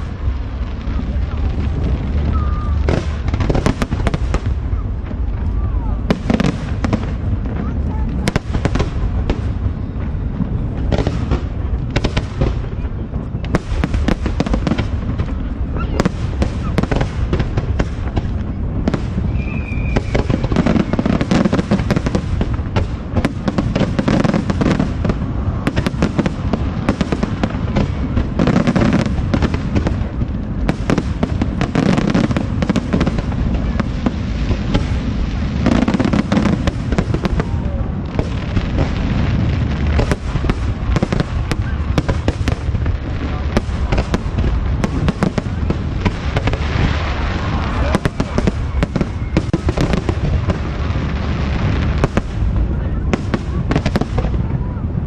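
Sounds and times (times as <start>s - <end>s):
fireworks bursts and crackles: 0.0s - 55.0s
fireworks deep booms: 0.0s - 55.0s.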